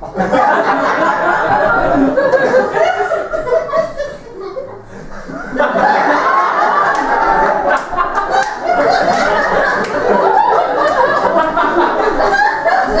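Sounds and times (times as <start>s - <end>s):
audience laughing loudly: 0.0s - 13.0s.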